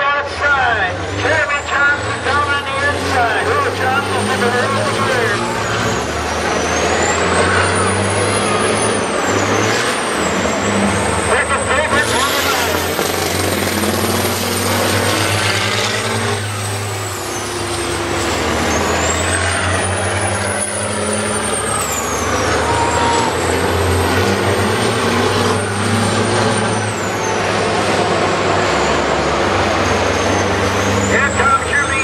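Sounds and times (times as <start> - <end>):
truck engines racing: 0.0 - 32.0.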